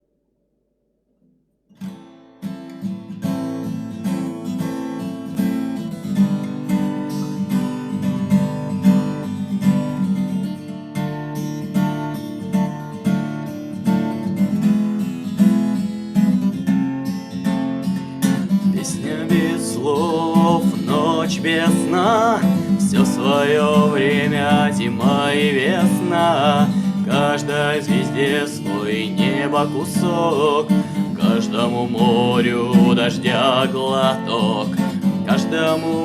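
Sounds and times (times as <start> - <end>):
acoustic guitar strumming: 1.7 - 36.0.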